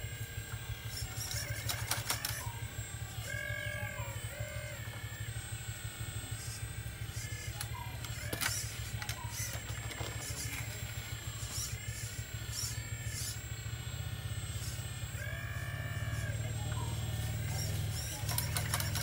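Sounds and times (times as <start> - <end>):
model excavator motor whining: 0.0 - 19.0.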